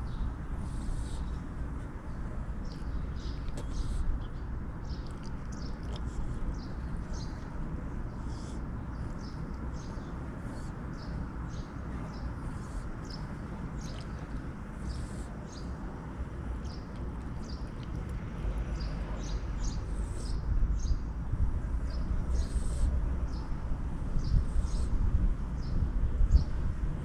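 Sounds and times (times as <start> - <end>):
small birds chirping: 0.0 - 26.7
low outdoor rumble: 0.0 - 27.0.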